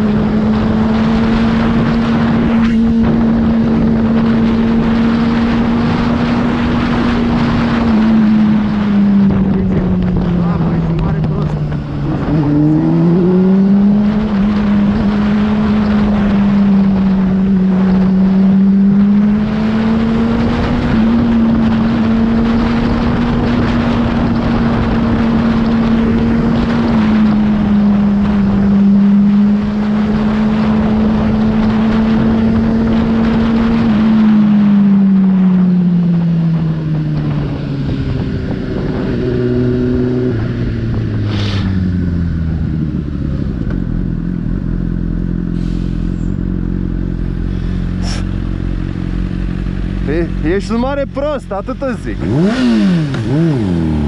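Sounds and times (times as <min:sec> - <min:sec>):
motorcycle engine cruising: 0:00.0 - 0:54.0
wind rushing over microphone: 0:00.0 - 0:54.0.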